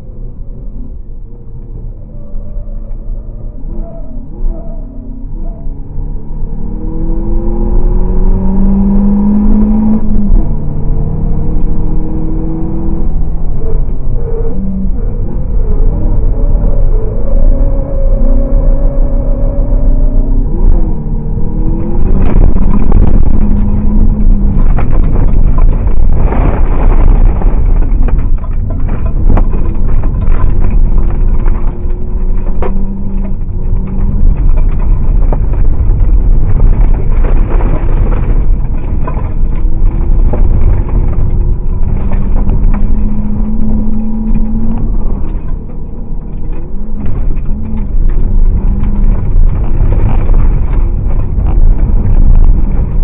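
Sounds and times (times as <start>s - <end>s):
race car engine revving: 5.2s - 53.0s.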